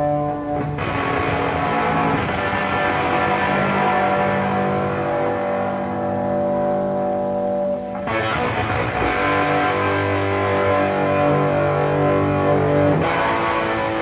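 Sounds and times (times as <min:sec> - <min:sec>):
rushing hissing noise wash: 0:00.0 - 0:14.0.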